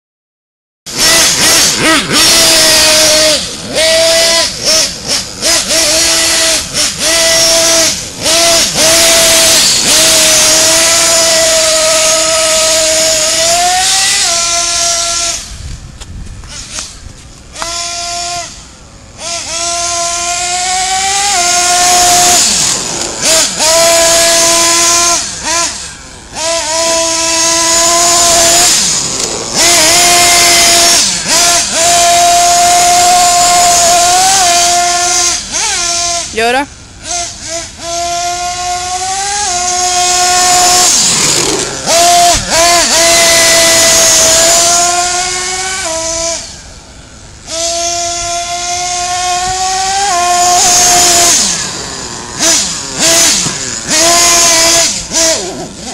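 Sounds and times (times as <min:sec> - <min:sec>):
small engine revving at high pitch: 0:00.9 - 0:15.7, 0:16.4 - 0:55.9.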